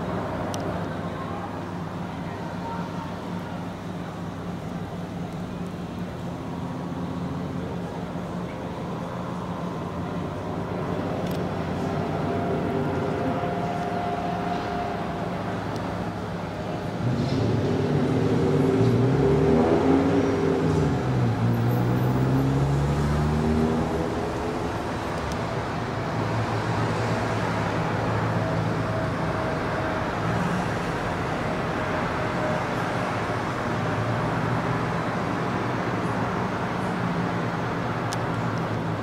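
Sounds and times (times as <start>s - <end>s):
low city hum: 0.0s - 39.0s.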